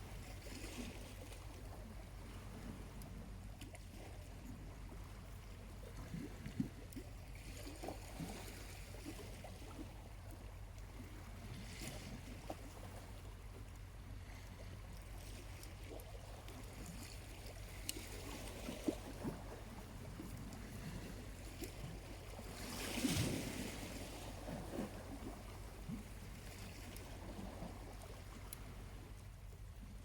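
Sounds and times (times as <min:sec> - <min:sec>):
small waves washing on shore: 0:00.0 - 0:30.0.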